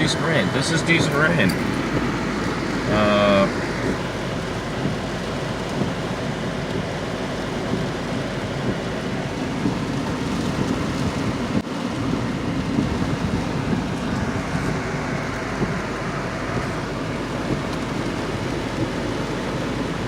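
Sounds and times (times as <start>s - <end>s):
car engine idling: 0.0s - 20.0s
steady rain falling: 0.0s - 20.0s.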